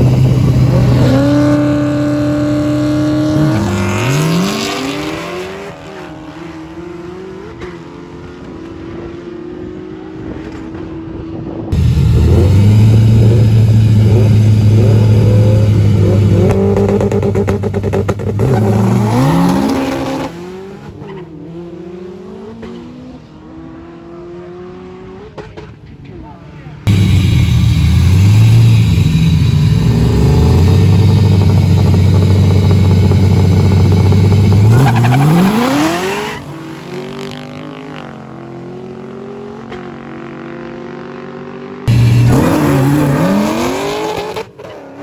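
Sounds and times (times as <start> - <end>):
car engine revving: 0.0 - 10.7, 11.8 - 25.4, 26.9 - 41.0, 41.7 - 45.0
distant drag cars accelerating: 0.0 - 25.9, 26.8 - 45.0.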